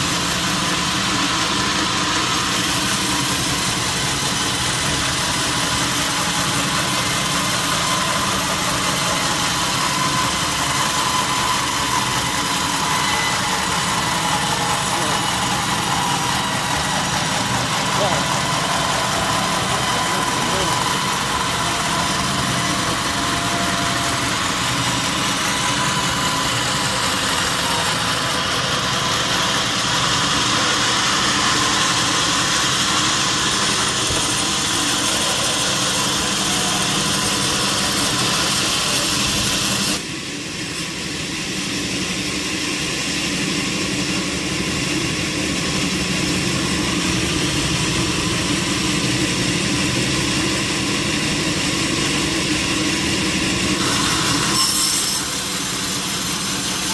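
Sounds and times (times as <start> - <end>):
low machine drone: 3.4 - 54.0.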